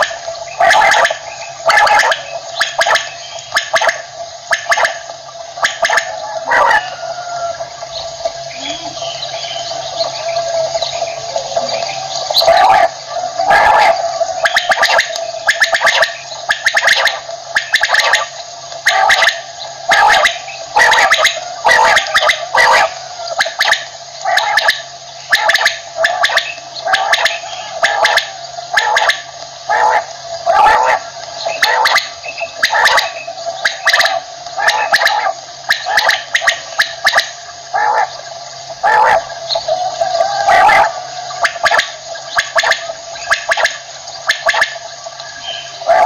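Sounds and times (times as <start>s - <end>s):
quail calling: 0.0s - 46.0s
steady hum: 0.0s - 46.0s.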